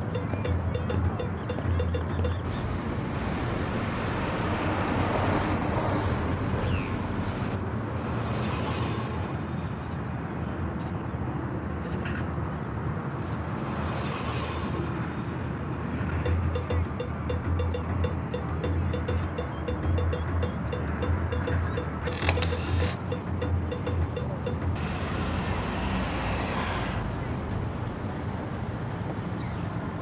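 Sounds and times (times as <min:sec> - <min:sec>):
roadway hum: 0:00.0 - 0:30.0.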